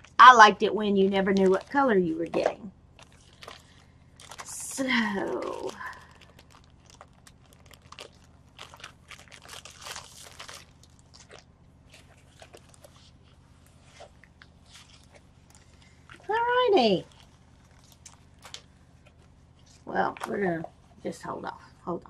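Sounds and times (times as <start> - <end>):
plastic bag crinkling: 0.0 - 20.4
canvas rustling: 1.0 - 21.1.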